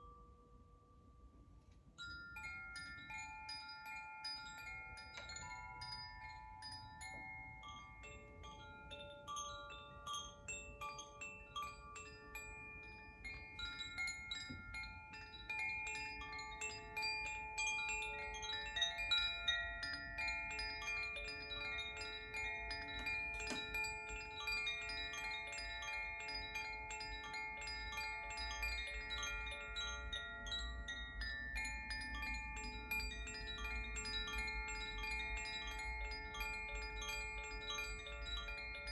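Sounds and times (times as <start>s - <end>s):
wind chimes ringing: 1.9s - 38.9s.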